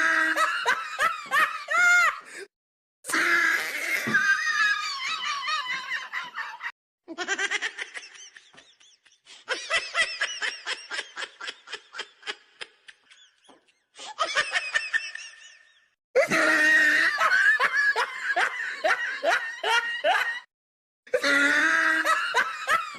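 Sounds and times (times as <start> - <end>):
high-pitched human laughter: 3.6 - 20.5, 21.2 - 22.9.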